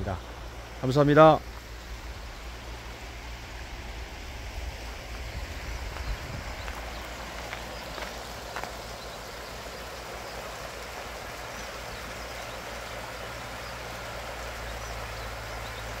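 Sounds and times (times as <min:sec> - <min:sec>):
low water rumble: 0:00.0 - 0:16.0
stream rushing over rocks: 0:00.0 - 0:16.0.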